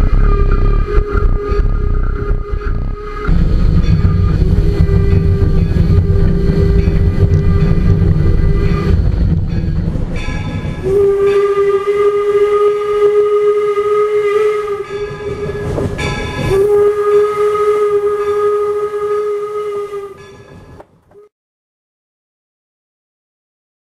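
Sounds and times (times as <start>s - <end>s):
steam whistle blasts: 0.0s - 9.1s, 10.5s - 21.3s.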